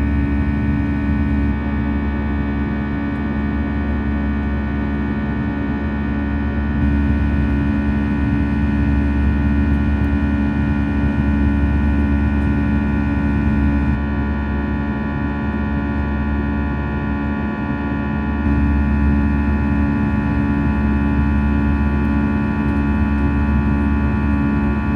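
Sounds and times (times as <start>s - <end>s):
airplane cabin drone: 0.0s - 24.9s.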